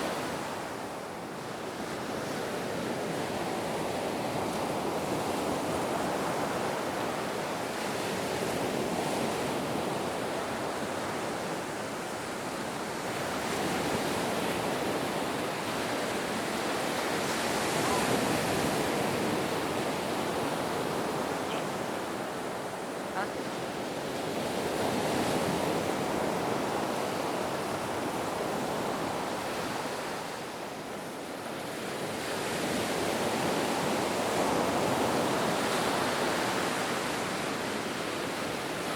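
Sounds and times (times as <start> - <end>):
ocean waves on beach: 0.0 - 38.9.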